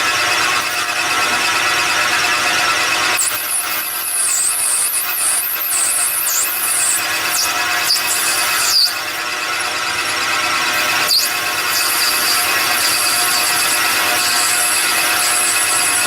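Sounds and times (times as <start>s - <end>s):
metal lathe humming: 0.0s - 16.0s
high wavering tool squeal: 0.1s - 16.0s.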